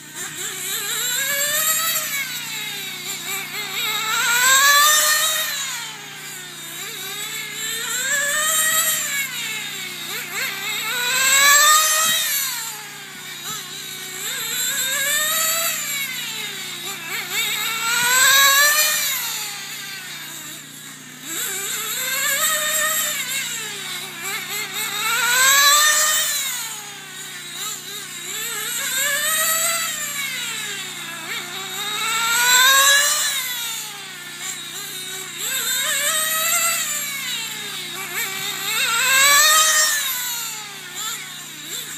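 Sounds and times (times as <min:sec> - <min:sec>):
model car engine whining: 0:00.0 - 0:41.9.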